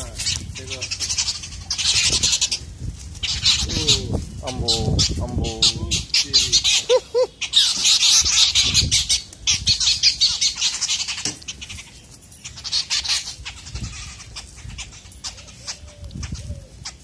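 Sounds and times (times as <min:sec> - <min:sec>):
birds squawking harshly: 0:00.0 - 0:17.0.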